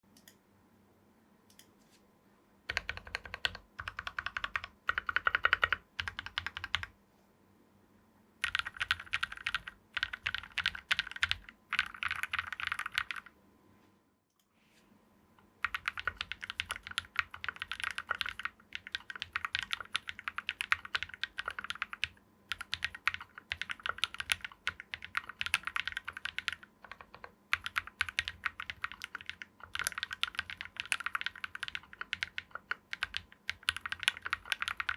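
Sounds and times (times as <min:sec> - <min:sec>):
typing on mechanical keyboard: 0:02.7 - 0:06.9, 0:08.4 - 0:13.3, 0:15.6 - 0:34.9.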